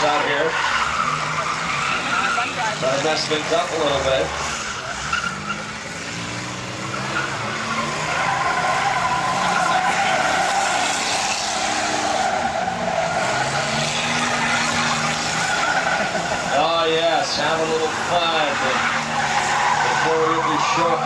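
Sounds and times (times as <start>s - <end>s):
car engines revving: 0.0s - 21.0s
car tyres squealing: 0.0s - 21.0s.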